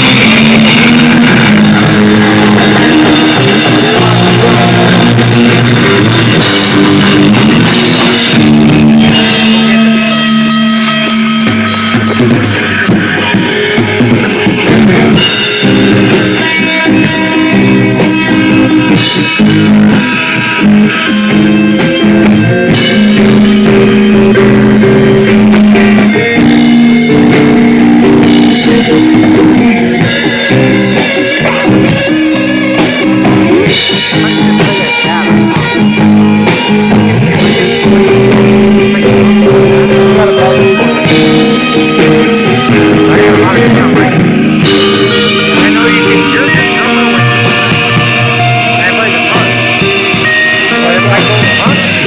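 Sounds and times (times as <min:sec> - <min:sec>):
distorted guitars: 0:00.0 - 0:52.0
pounding drum kit: 0:00.0 - 0:52.0.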